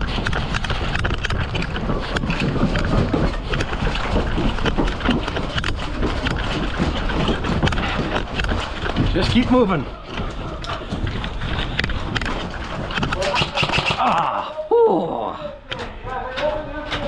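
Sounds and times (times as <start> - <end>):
footsteps and gear rattle: 0.0 - 14.4, 15.5 - 17.0.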